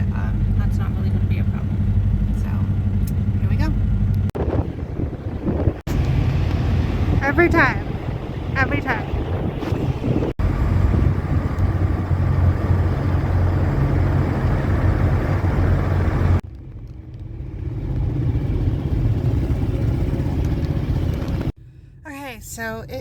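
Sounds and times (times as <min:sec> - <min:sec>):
road noise: 0:00.0 - 0:21.6
truck engine drone: 0:00.0 - 0:21.6.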